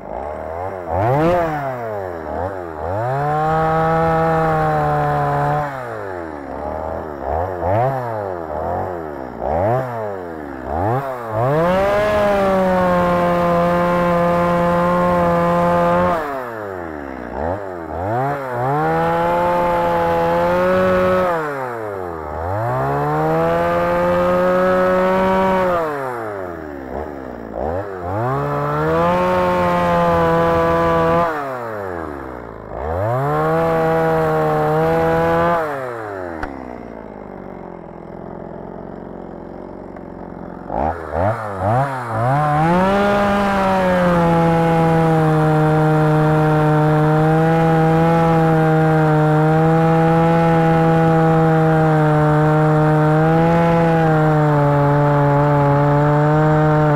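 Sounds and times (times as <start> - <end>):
chainsaw cutting stumps: 0.0 - 56.9.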